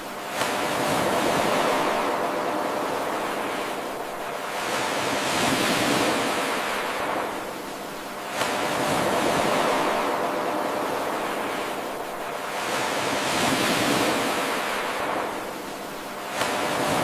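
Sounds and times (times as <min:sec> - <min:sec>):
ocean waves washing ashore: 0:00.0 - 0:17.0.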